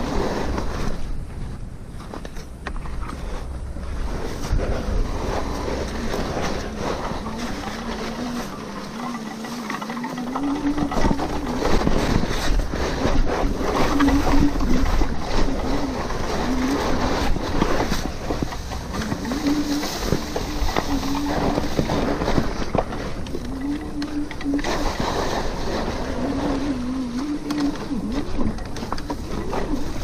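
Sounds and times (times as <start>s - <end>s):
tyre noise: 0.0s - 30.0s
wind buffeting microphone: 0.0s - 30.0s
knocks and rattles: 2.0s - 30.0s.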